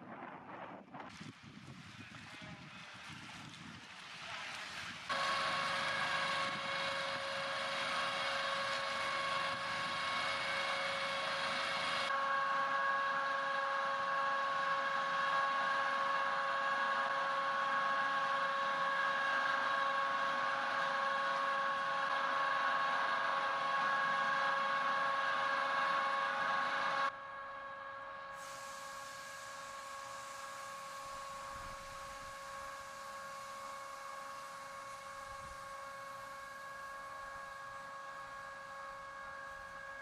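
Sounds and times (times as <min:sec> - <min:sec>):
machine drone with whine: 0:00.0 - 0:40.0.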